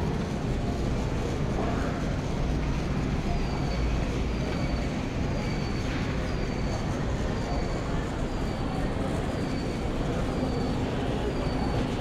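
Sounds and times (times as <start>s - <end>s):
store background noise: 0.0s - 12.0s.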